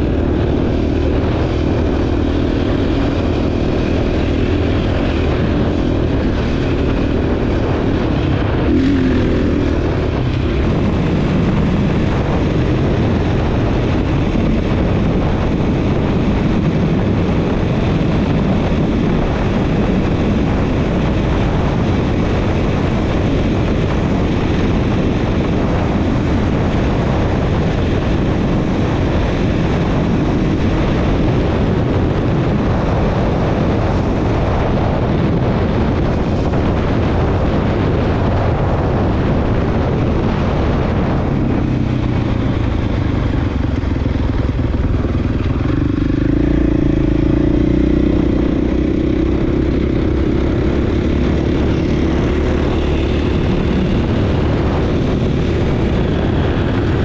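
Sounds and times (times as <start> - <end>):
dense rushing noise: 0.0 - 57.0
dirt bike engine running: 0.0 - 57.0.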